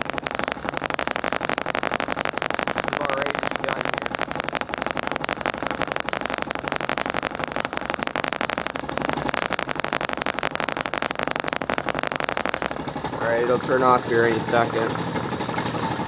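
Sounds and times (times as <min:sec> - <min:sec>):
air compressor pump chattering: 0:00.0 - 0:16.0.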